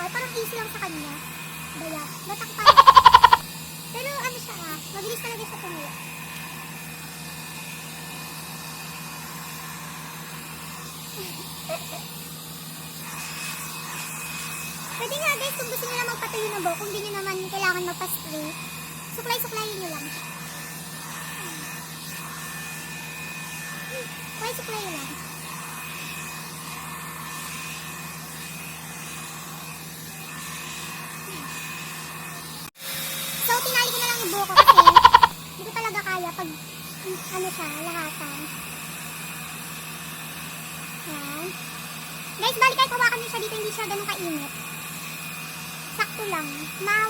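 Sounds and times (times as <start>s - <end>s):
hair dryer blowing: 0.0s - 47.0s.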